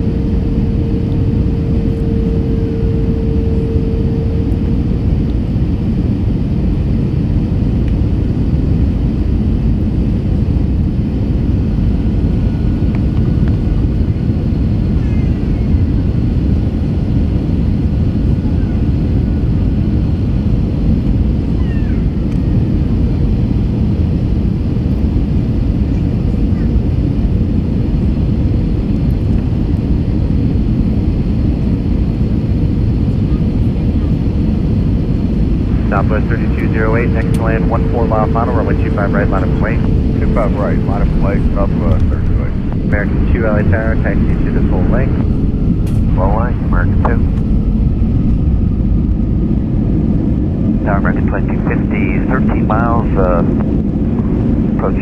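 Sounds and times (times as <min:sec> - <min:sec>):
airplane cabin rumble: 0:00.0 - 0:55.0
steady hum: 0:00.0 - 0:55.0.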